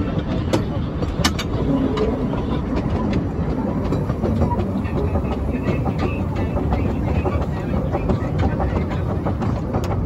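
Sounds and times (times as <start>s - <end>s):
steam locomotive running rumble: 0.0s - 10.0s
wheels clicking on rails: 0.0s - 10.0s.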